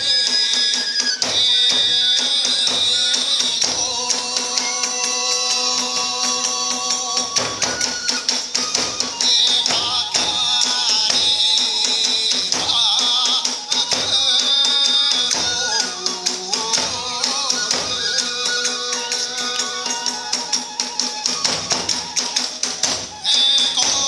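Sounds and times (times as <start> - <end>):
bamboo flute melody: 0.0 - 24.0
drums in driving rhythm: 0.0 - 24.0.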